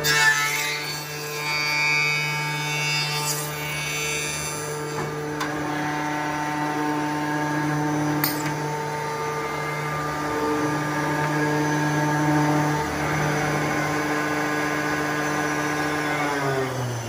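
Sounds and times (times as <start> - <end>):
woodworking machine motors whining: 0.0 - 17.0.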